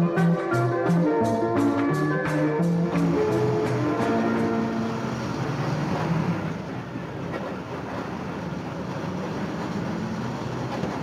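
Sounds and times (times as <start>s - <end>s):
bus engine rumbling: 0.0s - 11.0s
road noise: 0.0s - 11.0s.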